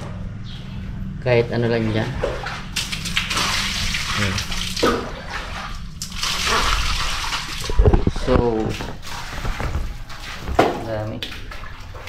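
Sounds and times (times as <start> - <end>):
water running and splashing: 1.9 - 12.0.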